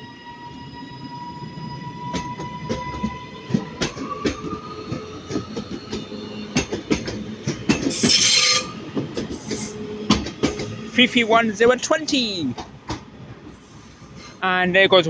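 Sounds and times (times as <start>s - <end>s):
train wheels clacking on track: 2.1s - 14.2s.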